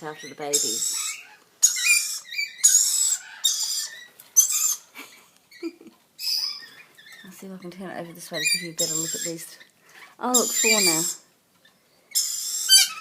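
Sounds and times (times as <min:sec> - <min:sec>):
lorikeets screeching: 0:00.0 - 0:04.9, 0:05.5 - 0:09.6, 0:10.2 - 0:11.3, 0:12.0 - 0:13.0.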